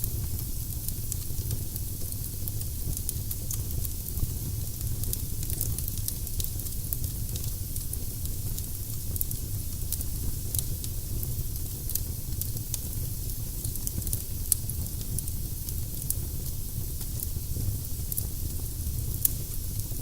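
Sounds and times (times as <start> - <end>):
firewood crackling in fireplace: 0.0 - 20.0.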